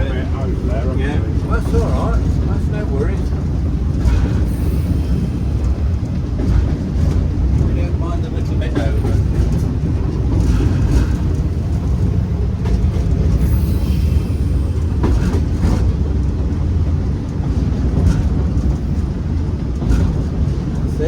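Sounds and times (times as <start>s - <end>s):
locomotive low rumble: 0.0s - 21.0s
wheels knocking on track: 0.0s - 21.0s.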